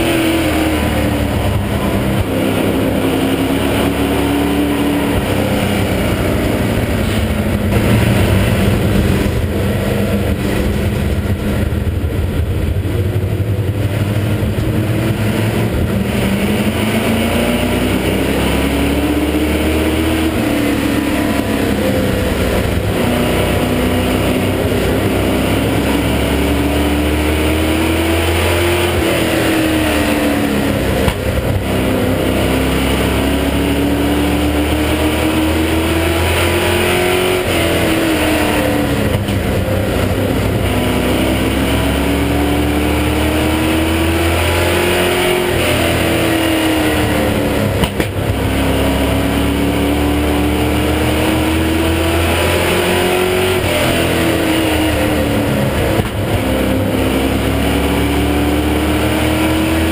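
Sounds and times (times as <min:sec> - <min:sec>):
race car engine at full throttle: 0:00.0 - 0:59.9
road and chassis noise: 0:00.0 - 0:59.9.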